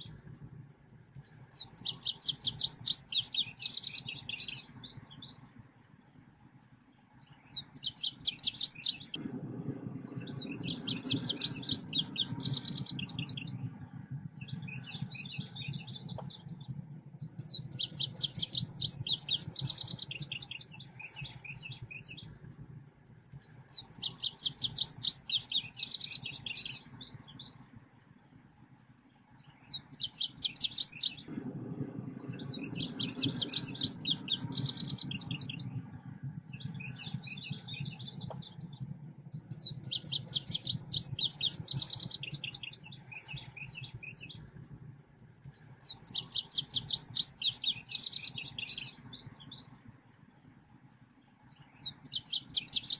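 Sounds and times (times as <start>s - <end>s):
faint low hum: 0.0s - 52.9s
songbird rapid high chirping: 1.2s - 5.6s, 7.1s - 9.2s, 10.0s - 22.4s, 23.3s - 27.9s, 29.3s - 31.3s, 32.1s - 44.6s, 45.4s - 50.1s, 51.4s - 52.9s.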